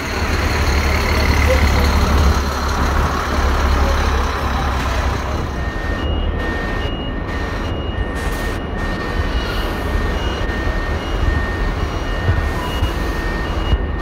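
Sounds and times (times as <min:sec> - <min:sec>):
bus engine rumbling: 0:00.0 - 0:14.0
reversing alarm beeping: 0:00.0 - 0:14.0.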